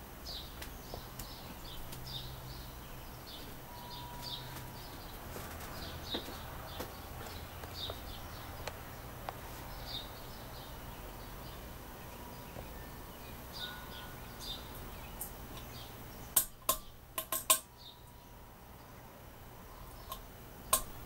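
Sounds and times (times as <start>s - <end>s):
birds chirping: 0.0s - 21.0s
ceiling fan humming: 0.0s - 21.0s.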